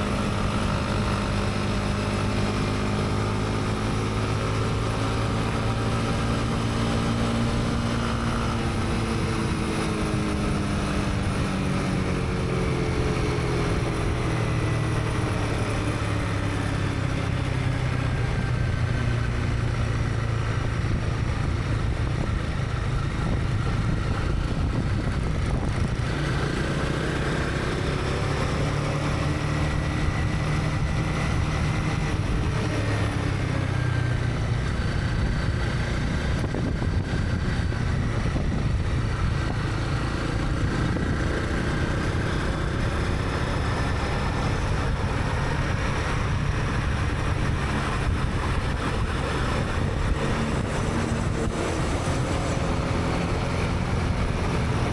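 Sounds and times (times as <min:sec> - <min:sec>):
motorcycle engine running: 0:00.0 - 0:54.9
other engines in traffic: 0:00.0 - 0:54.9.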